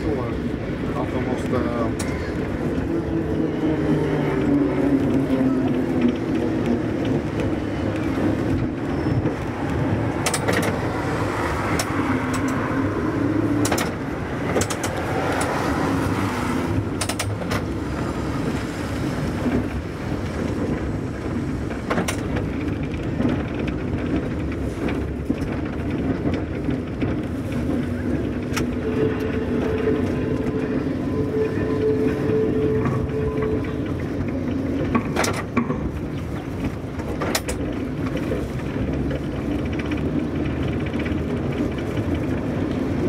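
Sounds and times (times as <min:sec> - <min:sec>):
tram rumbling along rails: 0:00.0 - 0:43.0
wheels clicking on track: 0:00.0 - 0:43.0.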